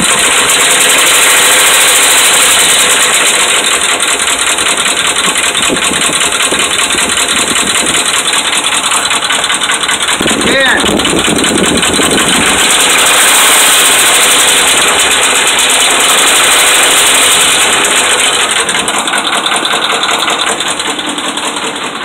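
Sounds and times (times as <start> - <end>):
engine running with fast knocking: 0.0 - 22.0.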